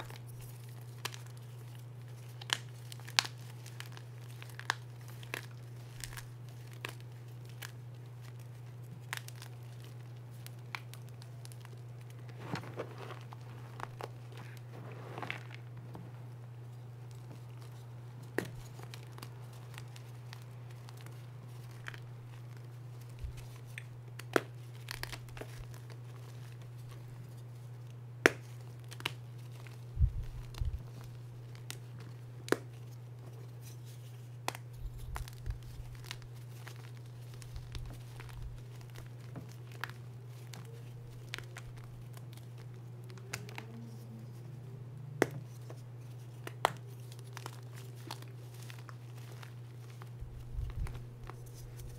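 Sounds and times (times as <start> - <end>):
hands crushing chalk blocks: 0.0 - 16.0, 17.1 - 27.5, 28.2 - 44.0, 45.2 - 51.9
steady low hum: 0.0 - 51.9.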